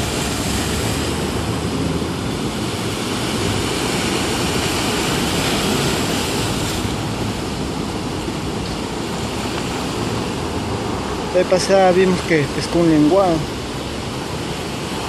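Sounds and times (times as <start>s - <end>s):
small waves breaking on shore: 0.0s - 15.0s.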